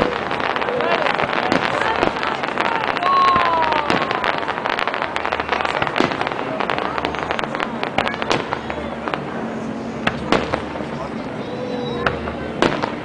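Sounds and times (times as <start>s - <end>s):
fireworks crackling: 0.0s - 13.0s
loud firework bangs: 0.0s - 13.0s.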